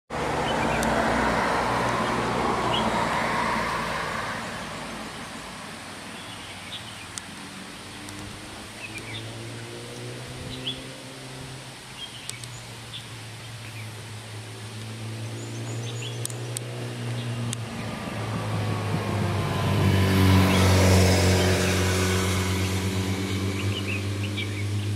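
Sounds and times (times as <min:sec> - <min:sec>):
passing road traffic: 0:00.1 - 0:24.9.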